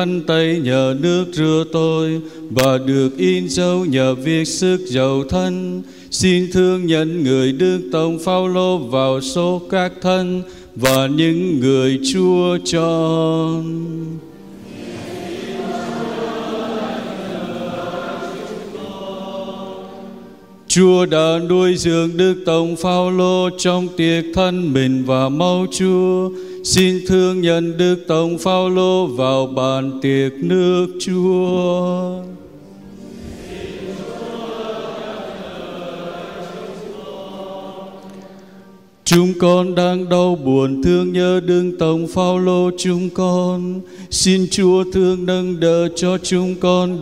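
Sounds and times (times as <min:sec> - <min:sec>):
congregation chanting in unison: 0:00.0 - 0:47.0.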